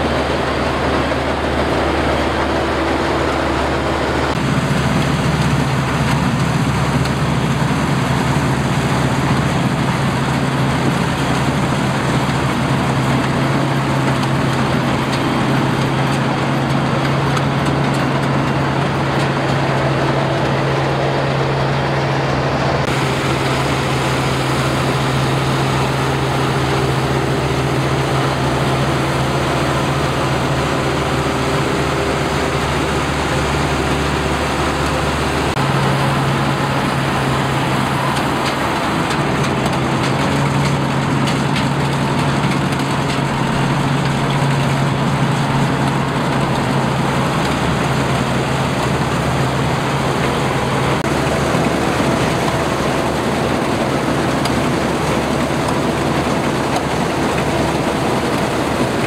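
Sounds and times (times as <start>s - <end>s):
combine harvester engine hum: 0.0s - 59.0s
threshing machinery clatter: 0.0s - 59.0s.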